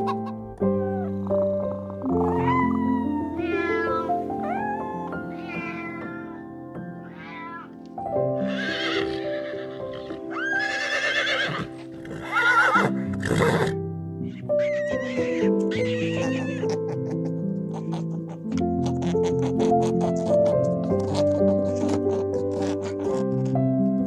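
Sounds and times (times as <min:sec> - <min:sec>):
background music: 0:00.0 - 0:24.0
farm animal calling: 0:02.0 - 0:13.7, 0:14.3 - 0:23.5.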